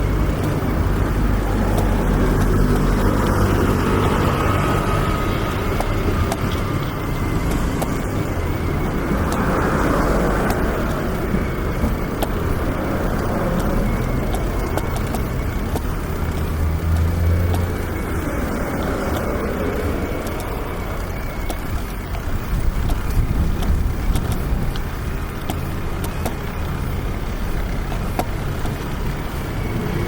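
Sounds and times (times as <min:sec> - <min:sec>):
road traffic noise: 0:00.0 - 0:30.0
vehicle passing close: 0:00.0 - 0:30.0.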